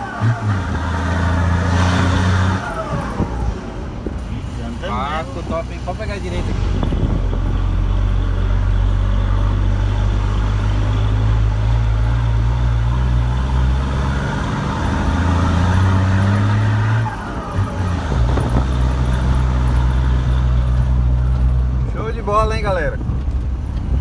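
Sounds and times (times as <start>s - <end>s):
diesel truck engine: 0.0s - 24.0s.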